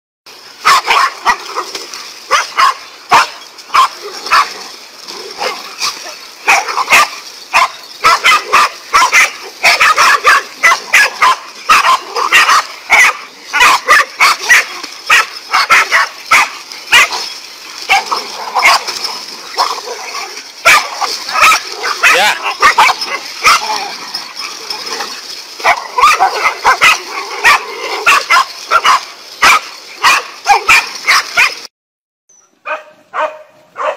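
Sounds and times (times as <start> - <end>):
small dogs barking and yipping: 0.6 - 31.7, 32.6 - 33.9.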